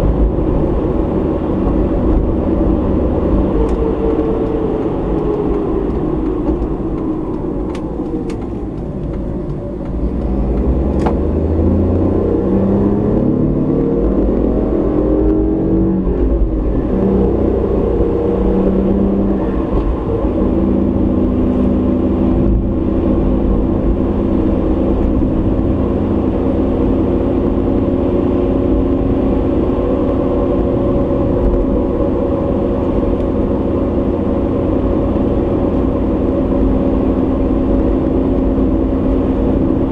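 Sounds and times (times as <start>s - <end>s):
car engine: 0.0s - 39.9s
tyre road noise: 0.0s - 39.9s.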